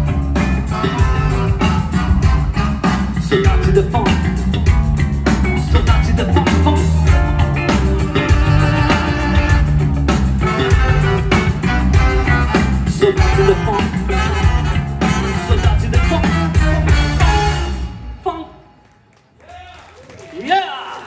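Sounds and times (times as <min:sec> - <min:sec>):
live funk-rock band playing: 0:00.0 - 0:18.2.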